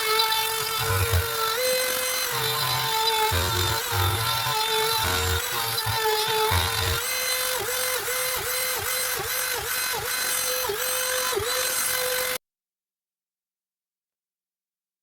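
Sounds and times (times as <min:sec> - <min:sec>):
router spindle cutting wood: 0:00.0 - 0:12.4.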